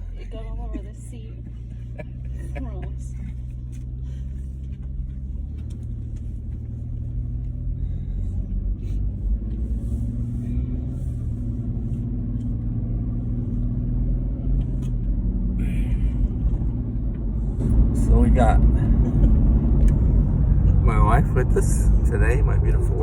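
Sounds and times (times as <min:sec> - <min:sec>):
car engine accelerating: 0:00.0 - 0:23.0
road rumble inside car: 0:00.0 - 0:23.0.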